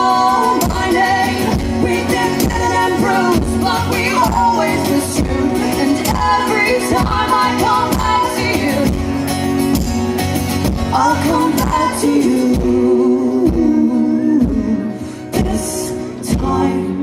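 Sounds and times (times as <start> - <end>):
woman singing: 0.0 - 9.0, 10.9 - 17.0
strummed acoustic guitars: 0.0 - 17.0.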